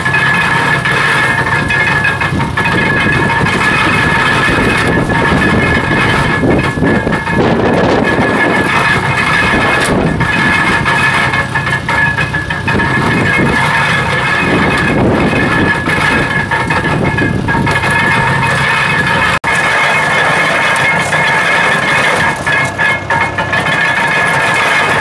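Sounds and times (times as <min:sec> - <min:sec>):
hay baler machinery clatter: 0:00.0 - 0:25.0.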